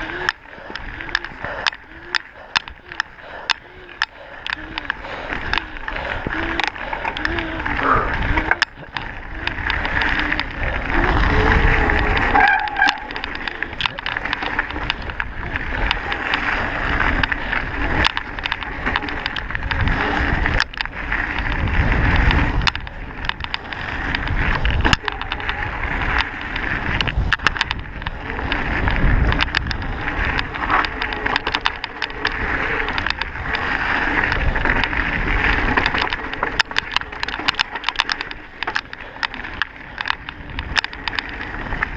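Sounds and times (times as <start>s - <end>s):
sharp clicks and knocks: 0.0s - 21.6s, 22.2s - 41.9s
bike rattling: 0.0s - 41.9s
bike tyres rolling on gravel: 0.0s - 41.9s
wind on microphone: 0.0s - 41.9s.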